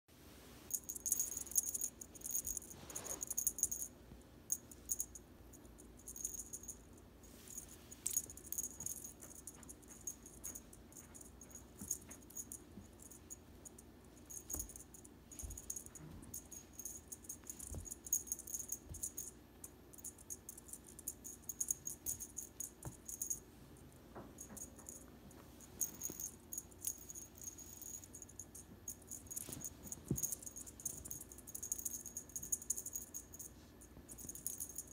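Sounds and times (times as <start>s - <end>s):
toy jingling and rattling: 0.7s - 3.9s, 4.5s - 6.9s, 7.5s - 23.4s, 24.4s - 34.9s.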